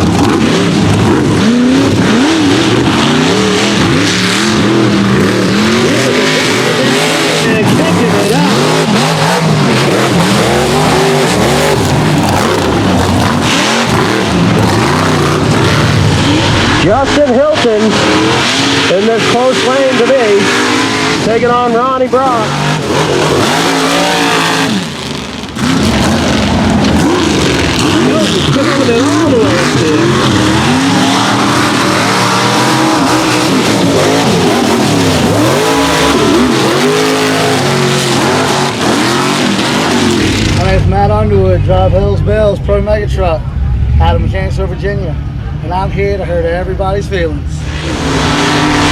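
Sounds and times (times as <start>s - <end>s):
truck engines revving: 0.0s - 48.9s.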